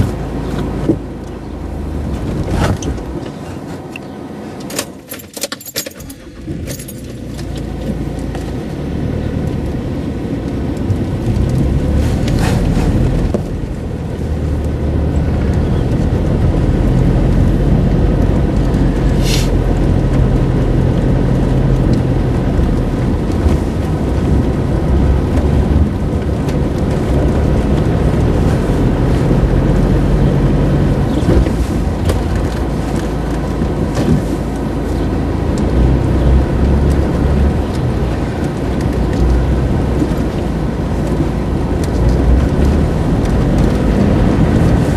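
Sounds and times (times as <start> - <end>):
car engine and tyre rumble: 0.0 - 44.9.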